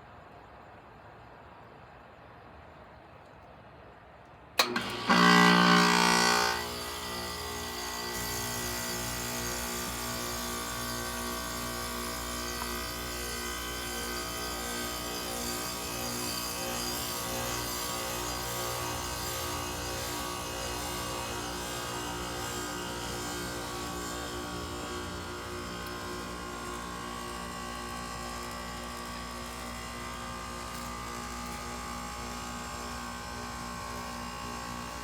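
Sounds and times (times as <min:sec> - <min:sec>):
compressor buzzing and humming: 0:04.6 - 0:35.0.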